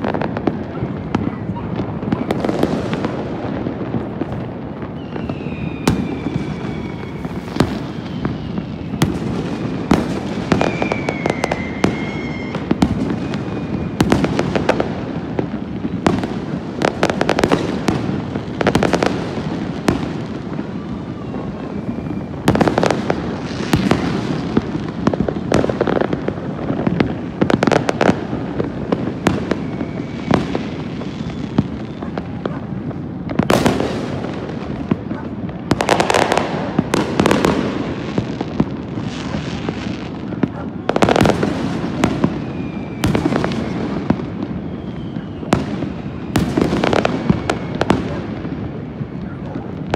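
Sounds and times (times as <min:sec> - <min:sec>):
fireworks bangs and crackles: 0:00.0 - 0:49.9
whistling fireworks: 0:00.0 - 0:49.9.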